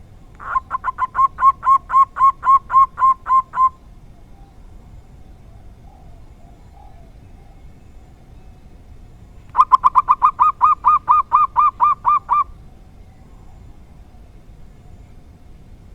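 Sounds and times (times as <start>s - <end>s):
dove calling: 0.0s - 8.4s, 9.1s - 15.2s.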